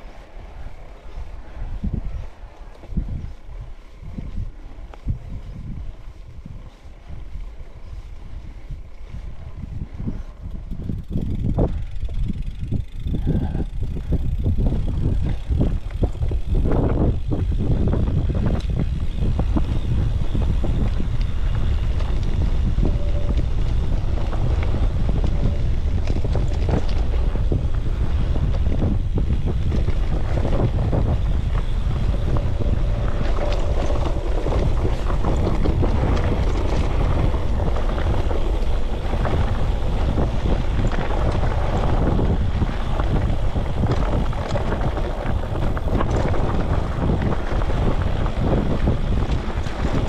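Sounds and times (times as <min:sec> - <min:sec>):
wind rumbling on microphone: 0:00.0 - 0:50.0
bike rattling and knocking: 0:01.8 - 0:50.0.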